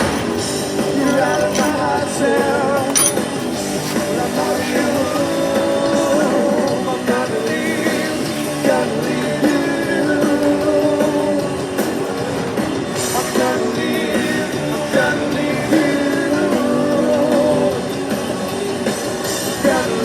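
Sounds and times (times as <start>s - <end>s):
rock music: 0.0s - 20.0s
person singing: 0.8s - 3.2s, 3.8s - 20.0s.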